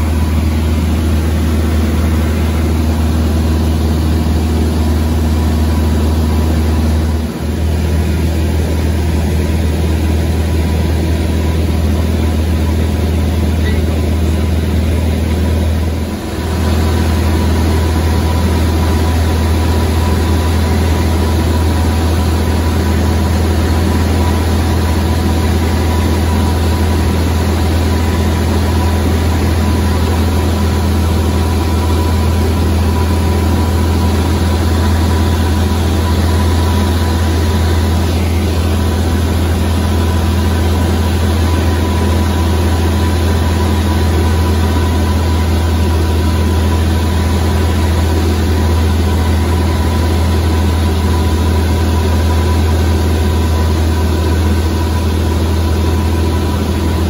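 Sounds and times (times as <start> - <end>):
propeller engine droning in cabin: 0.0 - 57.0
thin steady whine: 0.0 - 57.0.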